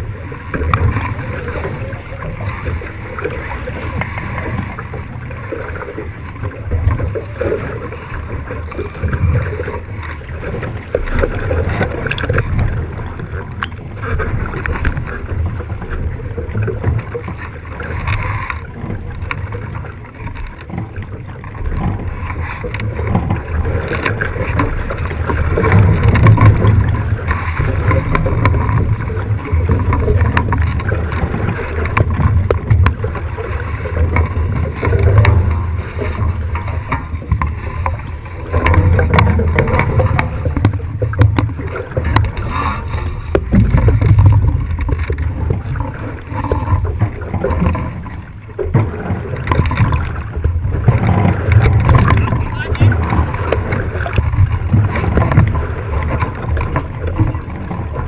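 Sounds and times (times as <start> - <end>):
deep rumble: 0.0 - 58.0
rushing water: 0.0 - 58.0
wind: 0.0 - 58.0.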